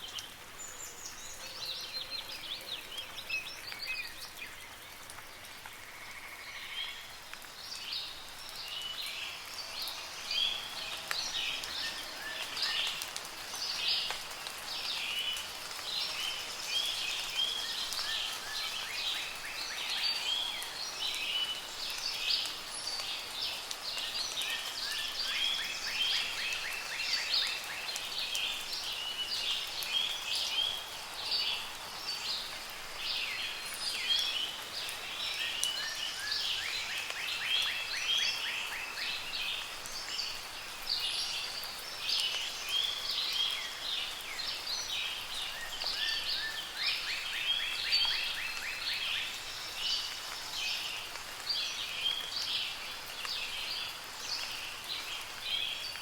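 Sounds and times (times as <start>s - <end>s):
soft rain: 0.0s - 56.0s
songbirds singing and calling: 0.0s - 56.0s.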